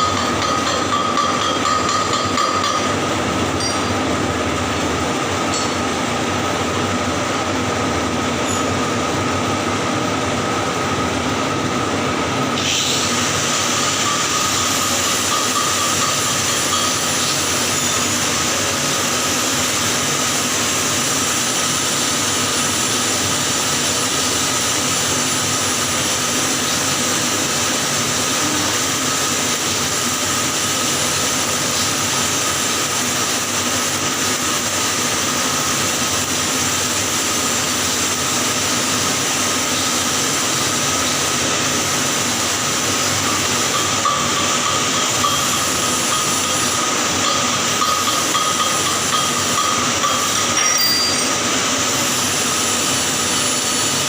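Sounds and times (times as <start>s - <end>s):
welding hiss with whine: 0.0s - 54.0s.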